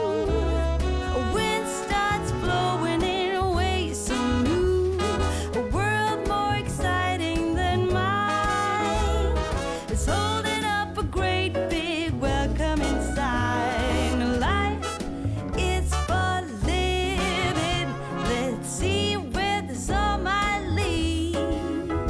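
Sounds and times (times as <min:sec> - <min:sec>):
upbeat jazzy pop song: 0:00.0 - 0:22.0.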